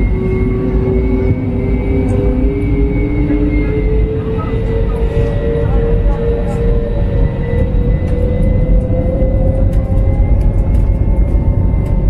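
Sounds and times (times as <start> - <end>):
jet engines spooling up: 0.0 - 12.0.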